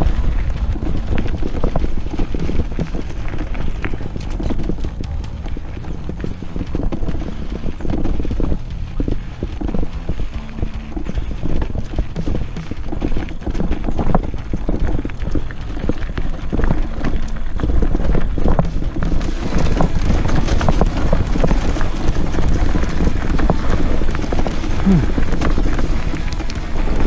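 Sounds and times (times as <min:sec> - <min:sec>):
bike tyres knocking and rattling: 0:00.0 - 0:27.0
low rumble: 0:00.0 - 0:27.0.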